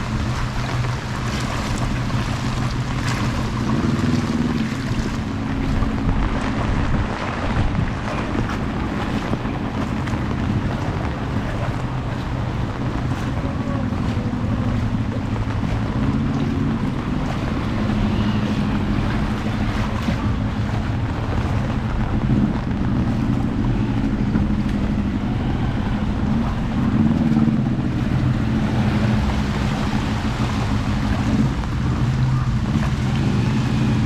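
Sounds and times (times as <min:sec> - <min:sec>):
engine running: 0:00.0 - 0:34.0
rain and flood water hiss: 0:00.0 - 0:34.0.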